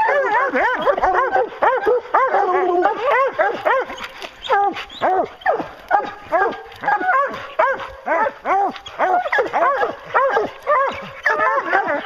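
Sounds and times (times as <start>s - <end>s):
hounds barking: 0.0s - 12.0s.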